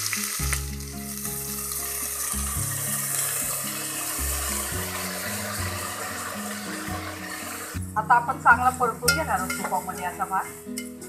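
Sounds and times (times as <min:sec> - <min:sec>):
background music: 0:00.0 - 0:11.0
rice sizzling in hot oil: 0:00.0 - 0:11.0.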